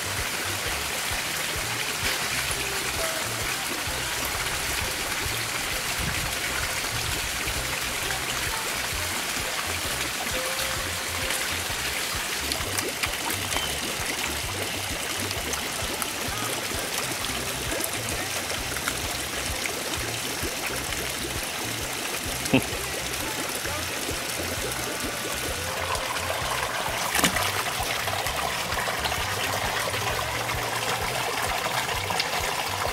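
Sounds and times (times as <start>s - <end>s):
music playing: 0.0s - 32.9s
water trickling: 0.0s - 32.9s.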